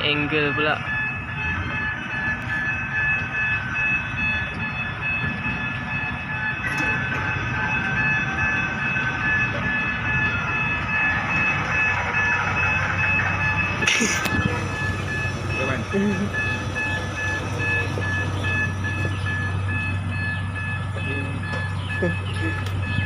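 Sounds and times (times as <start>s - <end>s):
crane machinery low rumble: 0.0s - 23.0s
machinery high whine: 0.0s - 23.0s.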